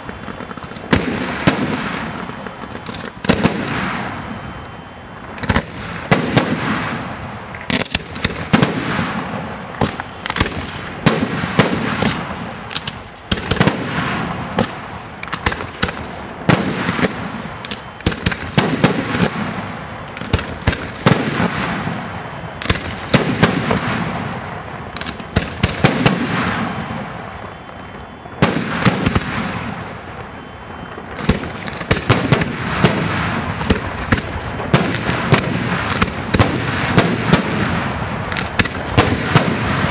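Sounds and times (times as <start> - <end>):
firework shells bursting: 0.0 - 39.9
rolling echo rumble: 0.0 - 39.9.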